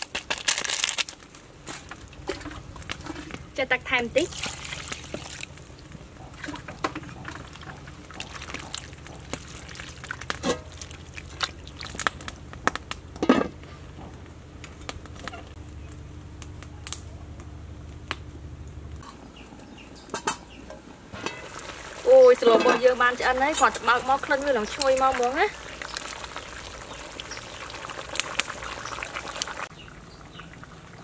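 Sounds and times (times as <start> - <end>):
low steady hum: 1.4 - 31.0.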